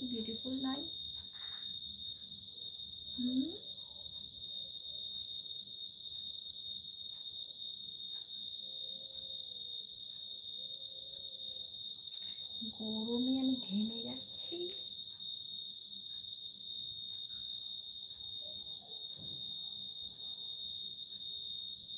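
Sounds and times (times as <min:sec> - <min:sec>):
cricket trilling: 0:00.0 - 0:21.9.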